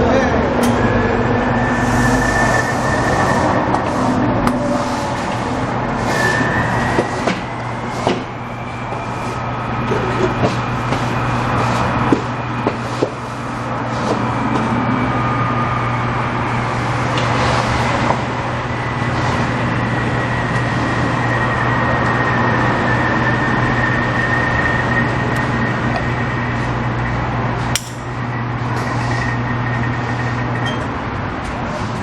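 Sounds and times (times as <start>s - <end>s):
motor humming with high whine: 0.0s - 32.0s.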